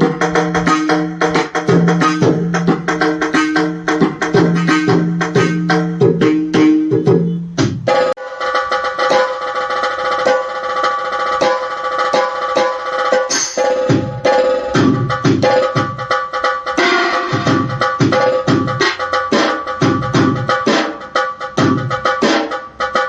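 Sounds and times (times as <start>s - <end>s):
fast percussion strikes: 0.0s - 23.0s.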